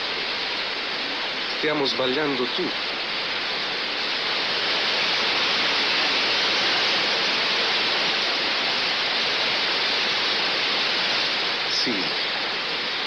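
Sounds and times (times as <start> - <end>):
fountain water falling: 0.0 - 13.0.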